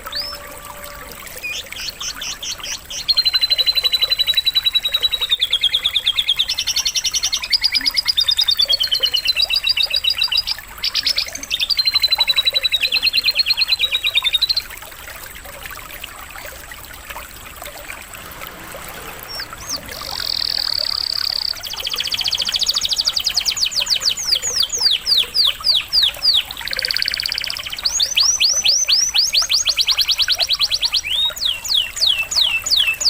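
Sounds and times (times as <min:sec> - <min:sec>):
canary singing in trills: 0:00.0 - 0:14.7, 0:19.0 - 0:33.0
trickle of running water: 0:00.0 - 0:33.0.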